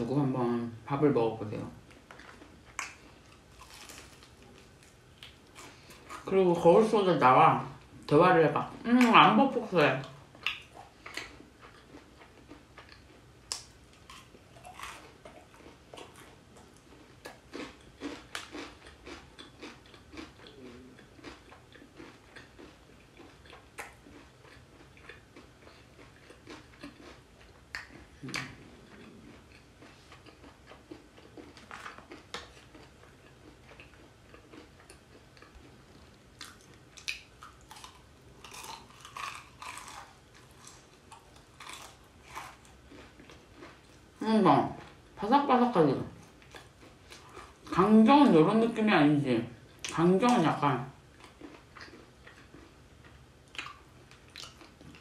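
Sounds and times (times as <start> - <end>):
chewing crispy fried chicken: 1.8 - 6.9, 8.6 - 45.2, 46.2 - 48.2, 49.6 - 55.0.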